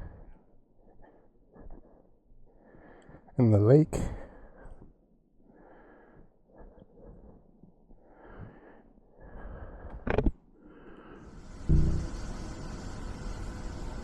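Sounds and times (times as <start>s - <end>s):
soft breaths: 0.0s - 3.4s, 4.0s - 14.0s.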